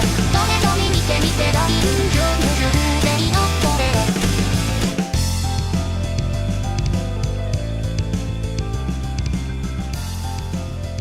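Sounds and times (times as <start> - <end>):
instrumental backing music: 0.0 - 11.0.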